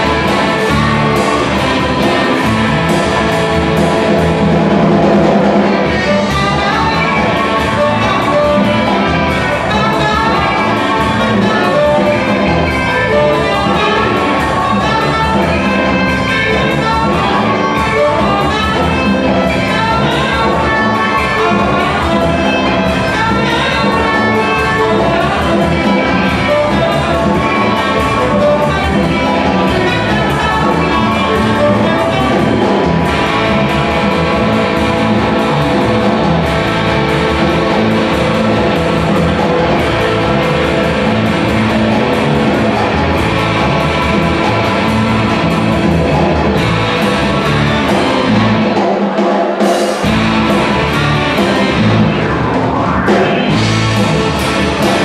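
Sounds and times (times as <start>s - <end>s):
live band instrumental: 0.0s - 55.0s
saxophone lead: 0.0s - 55.0s.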